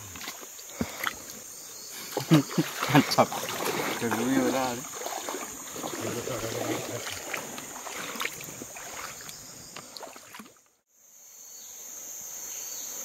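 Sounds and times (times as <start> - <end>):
water splashing from wading: 0.0 - 10.8
insects droning: 0.0 - 13.0.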